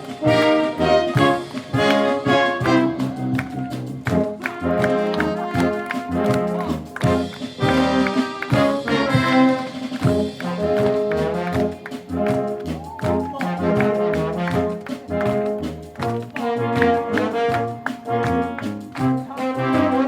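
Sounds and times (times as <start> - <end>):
wind orchestra playing: 0.0 - 20.0.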